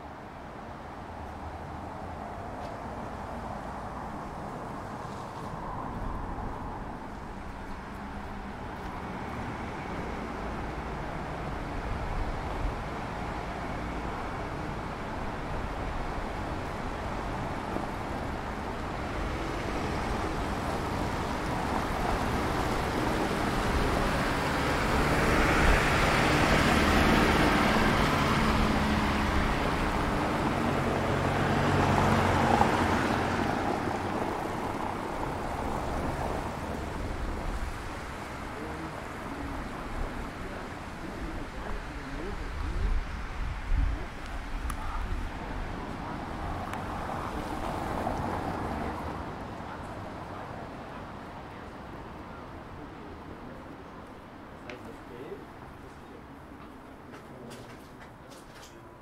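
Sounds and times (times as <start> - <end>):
vehicles passing by: 0.0 - 59.0.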